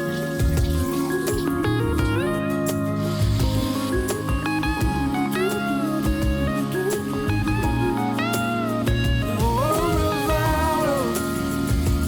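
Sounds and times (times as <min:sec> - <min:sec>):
soft instrumental song: 0:00.0 - 0:12.0.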